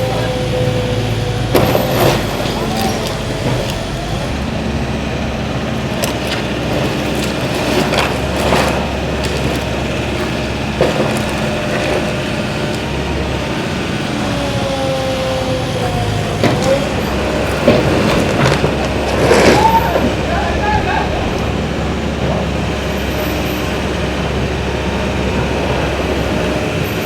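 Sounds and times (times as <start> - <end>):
street noise: 0.0 - 27.0
vehicle engine running: 0.0 - 27.0.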